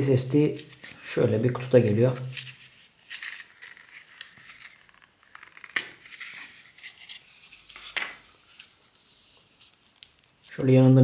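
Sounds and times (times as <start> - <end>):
plastic packaging rustling: 0.6 - 10.6.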